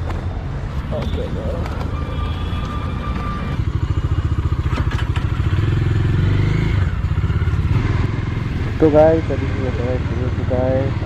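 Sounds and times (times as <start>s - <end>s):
motorcycle engine pulsing: 1.0s - 11.0s.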